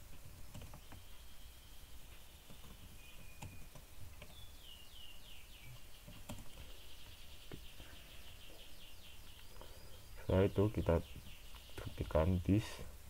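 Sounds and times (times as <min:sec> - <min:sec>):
bird chirping: 0:00.6 - 0:13.0.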